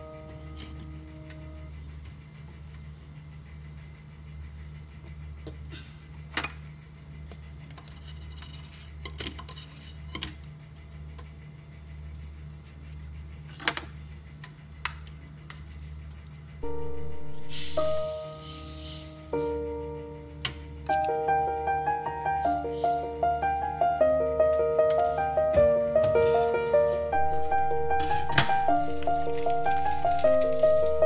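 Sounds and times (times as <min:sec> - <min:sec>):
steady low hum: 0:00.0 - 0:09.0, 0:10.0 - 0:31.0.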